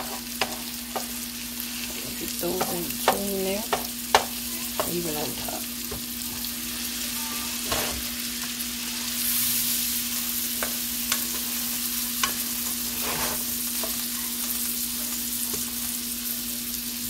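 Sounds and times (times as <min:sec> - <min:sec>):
meat sizzling in butter: 0:00.0 - 0:17.0.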